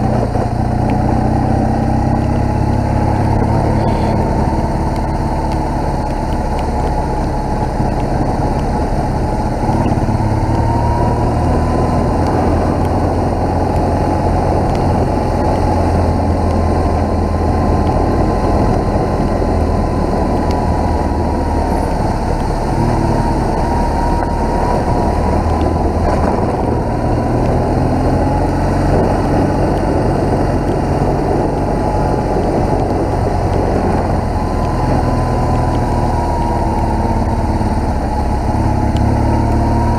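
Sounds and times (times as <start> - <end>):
motorcycle engine running: 0.0 - 39.9
rushing wind noise: 0.0 - 39.9.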